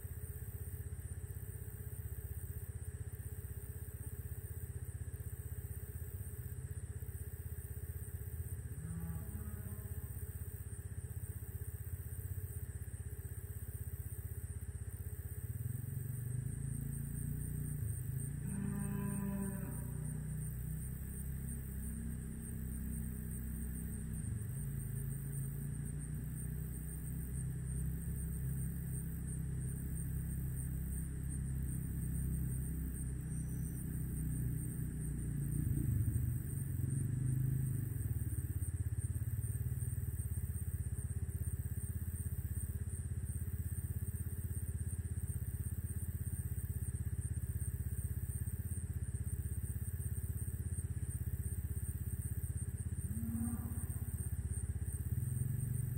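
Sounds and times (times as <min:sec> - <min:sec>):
constant high hiss: 0:00.0 - 0:55.9
low engine-like rumble: 0:00.0 - 0:55.9.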